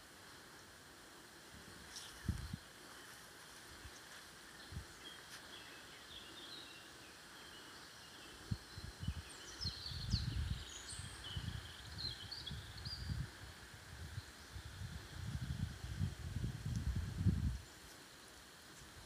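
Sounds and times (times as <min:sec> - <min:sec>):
songbirds chirping: 0:00.0 - 0:19.0
steady background hiss: 0:00.0 - 0:19.0.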